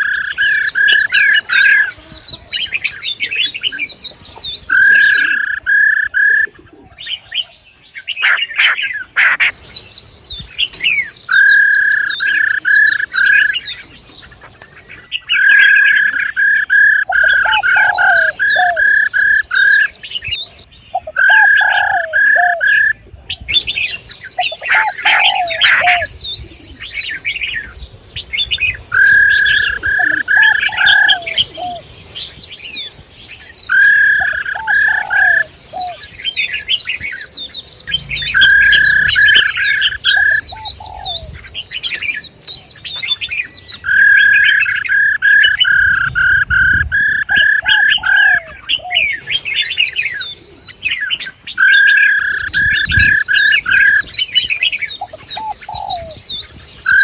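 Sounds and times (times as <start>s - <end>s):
repeated whistled bird notes: 0.0s - 6.5s, 8.0s - 27.7s, 28.3s - 57.0s
songbirds twittering: 0.0s - 57.0s.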